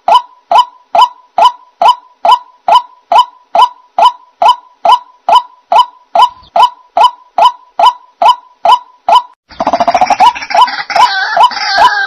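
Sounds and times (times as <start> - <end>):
waterhen calling: 0.0 - 12.0.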